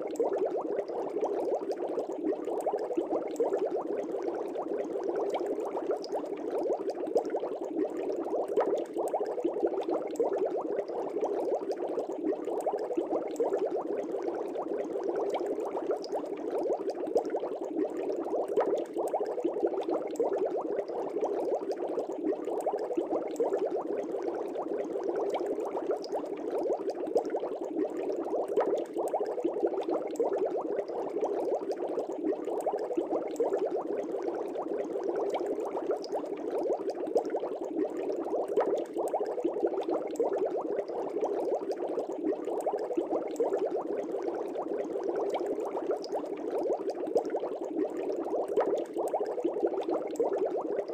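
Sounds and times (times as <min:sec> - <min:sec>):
aquarium air bubbling: 0:00.0 - 0:50.9.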